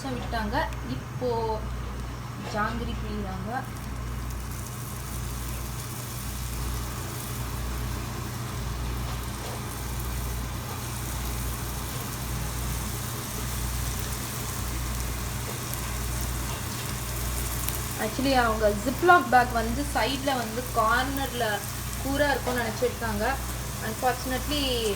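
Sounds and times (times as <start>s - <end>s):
low steady hum: 0.0s - 24.9s
batter sizzling in hot oil: 3.3s - 24.9s.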